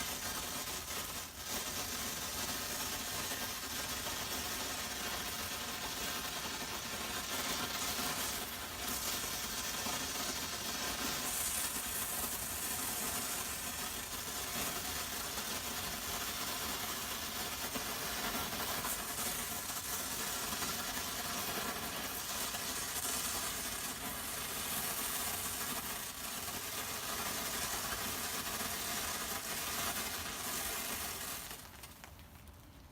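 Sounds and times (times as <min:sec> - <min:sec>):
firework tube hissing sizzle: 0:00.0 - 0:32.4.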